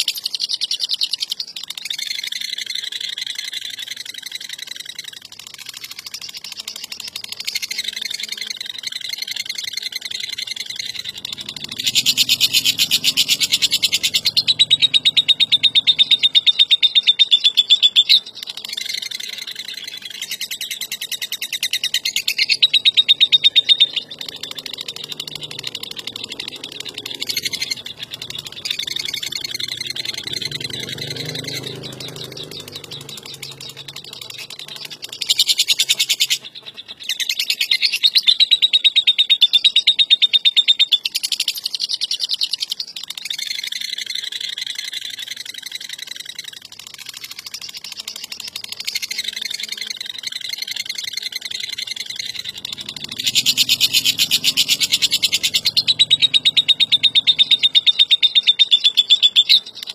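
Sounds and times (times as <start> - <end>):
lovebird chattering trill: 0.0 - 59.9.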